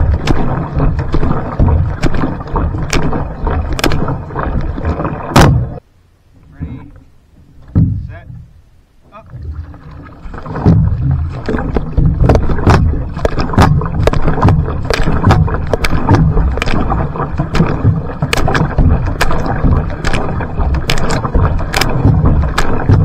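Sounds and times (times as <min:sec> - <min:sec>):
paddle splashes: 0:00.0 - 0:05.8, 0:09.2 - 0:23.0
water rushing past hull: 0:00.0 - 0:05.8, 0:09.1 - 0:23.0.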